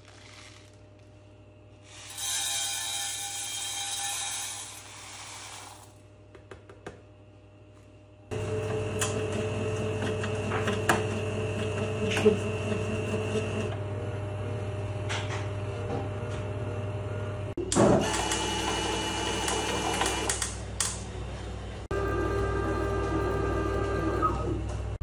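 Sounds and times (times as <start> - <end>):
electric motor hum with whine: 0.0 - 6.3, 6.9 - 20.6, 21.5 - 25.0.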